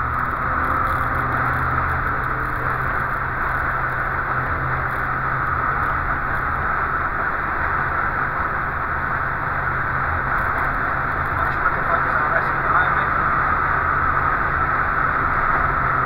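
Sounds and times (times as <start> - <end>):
car engine running: 0.0 - 16.0
tyre and wind noise: 0.0 - 16.0.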